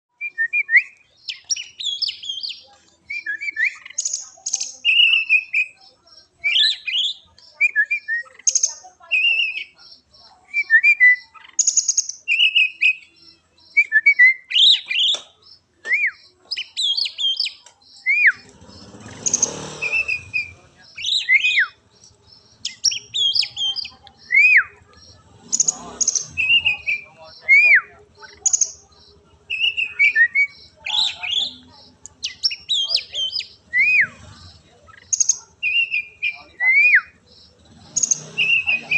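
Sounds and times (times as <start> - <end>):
bird singing whistled phrases: 0.1 - 21.8, 22.6 - 24.8, 25.6 - 34.2, 34.9 - 38.9.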